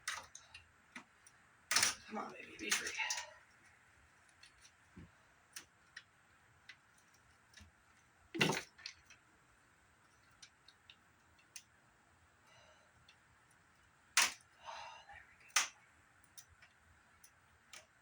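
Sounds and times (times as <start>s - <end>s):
light clicks and taps of parts: 0.0s - 2.0s, 2.6s - 9.2s, 10.0s - 11.8s, 12.9s - 14.6s, 15.4s - 18.0s.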